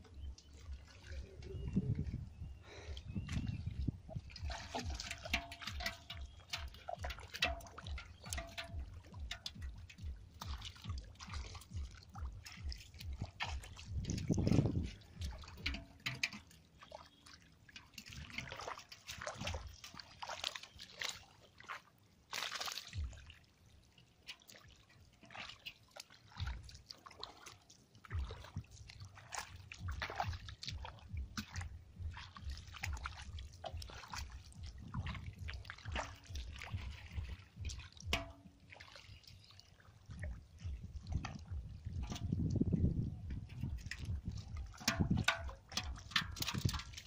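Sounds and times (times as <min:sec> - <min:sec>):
bare feet splashing through water: 0:00.0 - 0:47.0.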